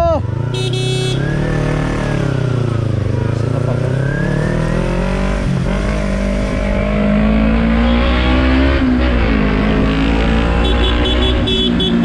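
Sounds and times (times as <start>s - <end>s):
vehicle engines in traffic: 0.0s - 12.0s
engine revving: 0.2s - 12.0s.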